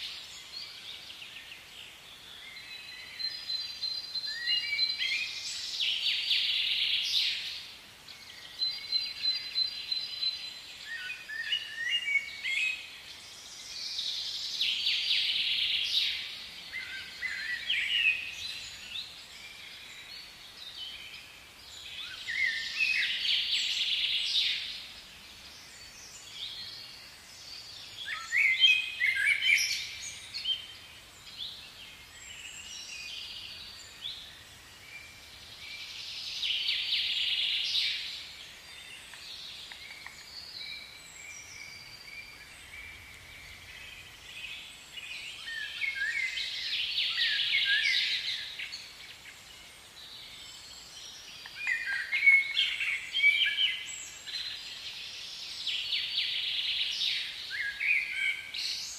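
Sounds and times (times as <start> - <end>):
birds singing high gliding calls: 0.0 - 58.9
steady outdoor hiss: 0.0 - 58.9.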